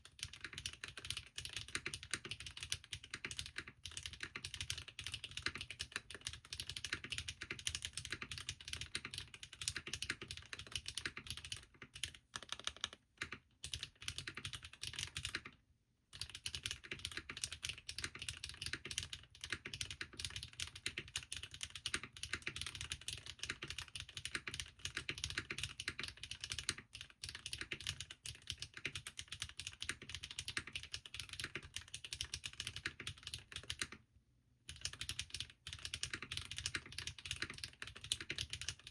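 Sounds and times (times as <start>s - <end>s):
mechanical keyboard typing: 0.0s - 34.0s, 34.7s - 38.9s.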